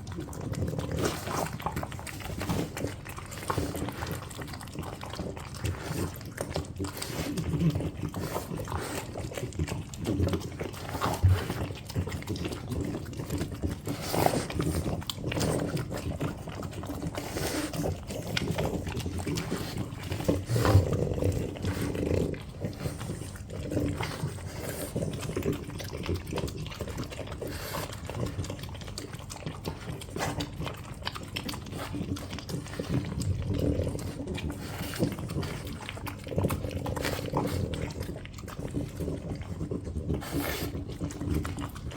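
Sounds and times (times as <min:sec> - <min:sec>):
dogs eating and licking: 0:00.0 - 0:41.9.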